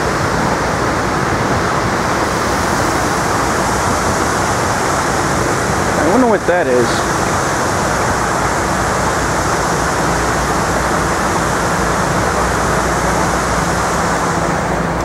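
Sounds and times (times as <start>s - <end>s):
rushing street noise: 0.0s - 15.0s.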